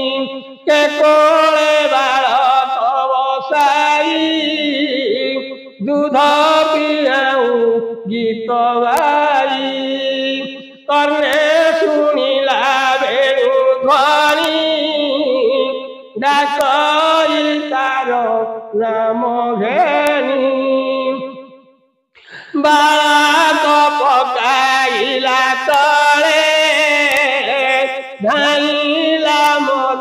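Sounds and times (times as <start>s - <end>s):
person chanting a verse: 0.0s - 21.4s, 22.2s - 30.0s.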